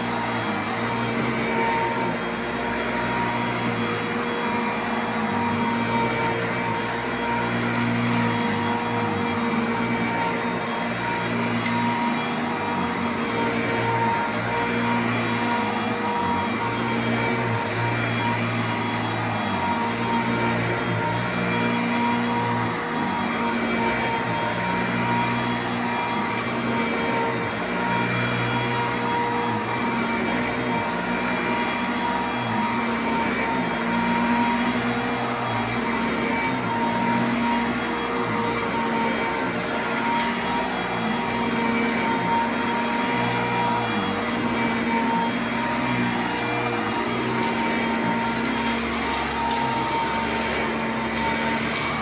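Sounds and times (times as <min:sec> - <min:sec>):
upright vacuum cleaner on carpet: 0:00.0 - 0:52.0.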